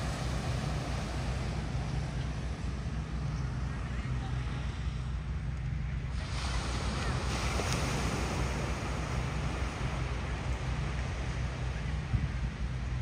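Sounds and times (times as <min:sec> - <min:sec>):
wind and sea water rushing: 0:00.0 - 0:13.0.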